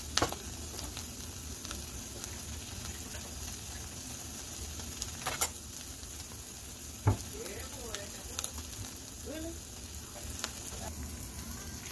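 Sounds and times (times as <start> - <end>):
eggs sizzling in frying pan: 0.0 - 11.9.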